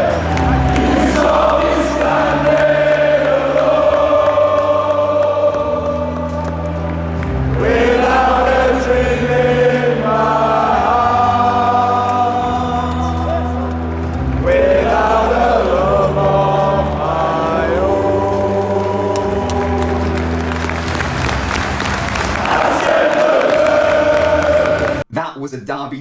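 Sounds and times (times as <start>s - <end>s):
steady bass notes: 0.0s - 22.7s
choir singing held notes: 0.0s - 25.0s.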